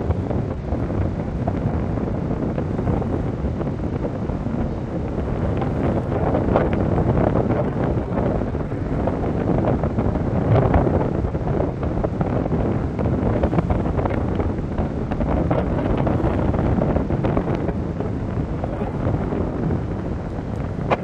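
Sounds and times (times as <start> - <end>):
wind gusting on microphone: 0.0 - 21.0.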